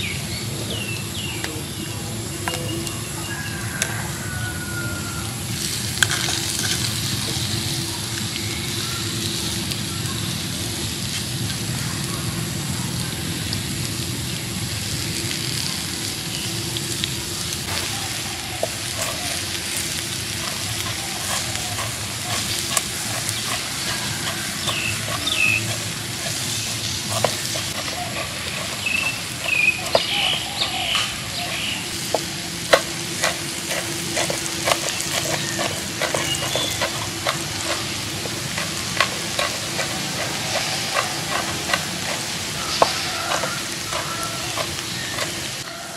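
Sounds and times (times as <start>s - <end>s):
prawns sizzling: 0.0s - 45.9s.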